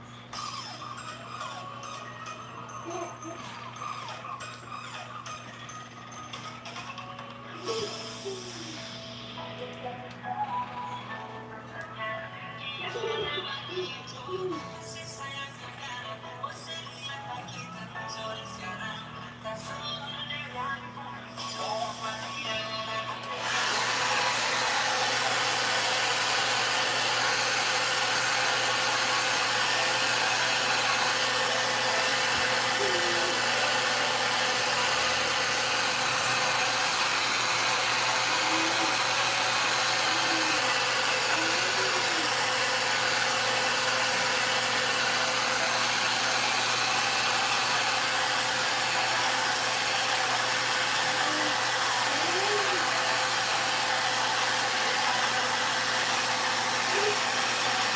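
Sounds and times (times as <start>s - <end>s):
hair dryer running: 0.0s - 4.7s, 6.2s - 14.9s, 21.4s - 57.9s.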